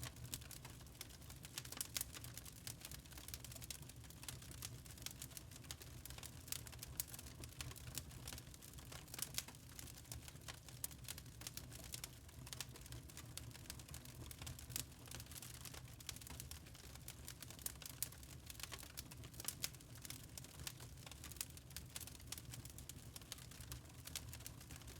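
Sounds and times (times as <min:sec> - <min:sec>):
fireplace fire crackling: 0:00.0 - 0:24.9
low rumble of burning logs: 0:00.0 - 0:24.9.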